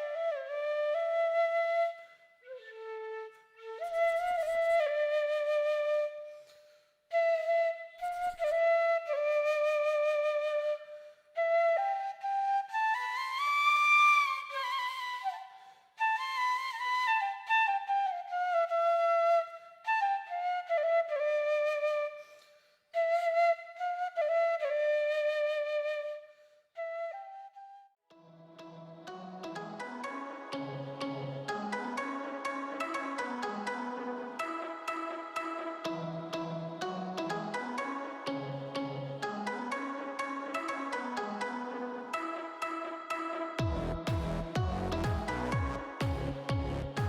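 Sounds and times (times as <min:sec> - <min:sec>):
flute melody: 0:00.0 - 0:47.0.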